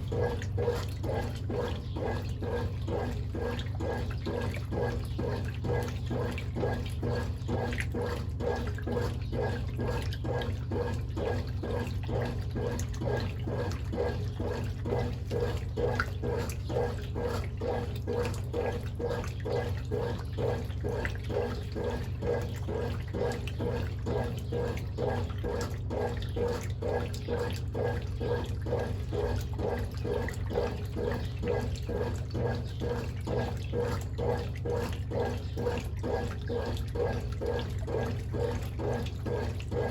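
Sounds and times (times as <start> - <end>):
washing machine motor hum: 0.0 - 39.9
water sloshing in washing machine: 0.0 - 39.9.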